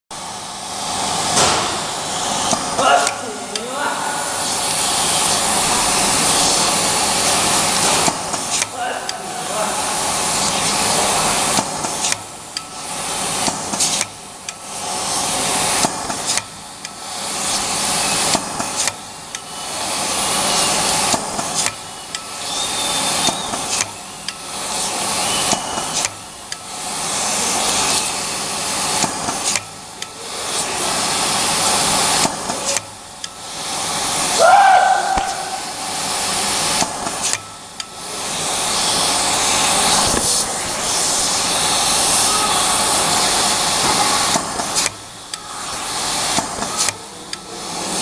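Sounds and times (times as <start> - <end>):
labeling machine hissing: 0.2 - 48.0.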